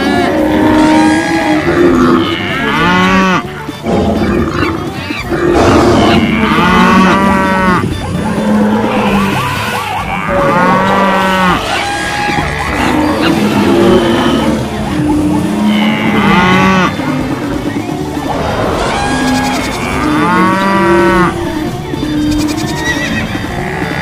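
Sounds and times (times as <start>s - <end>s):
cattle mooing: 0.0s - 24.0s
rising-and-falling animal cries: 0.0s - 24.0s.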